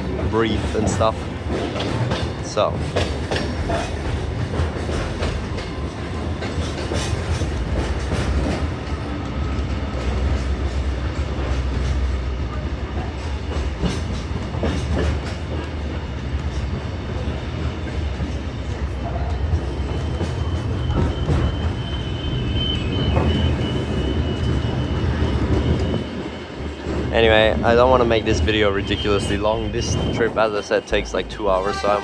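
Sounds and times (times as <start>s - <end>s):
train rumbling on track: 0.0s - 32.0s.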